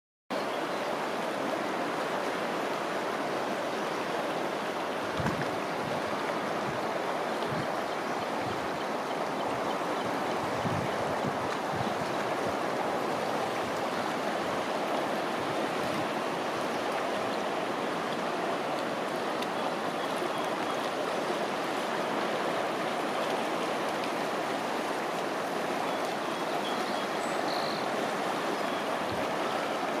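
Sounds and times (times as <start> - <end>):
river rushing over riffles: 0.4 - 30.0.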